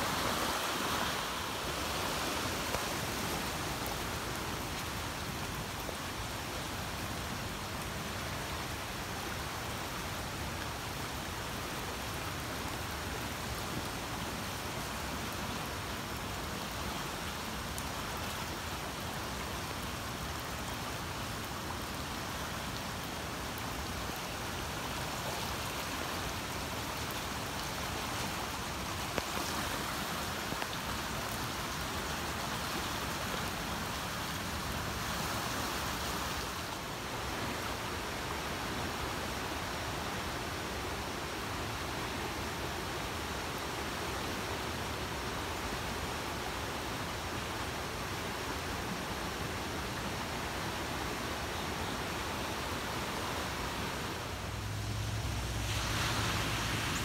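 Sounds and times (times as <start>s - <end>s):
floodwater rushing: 0.0s - 57.0s.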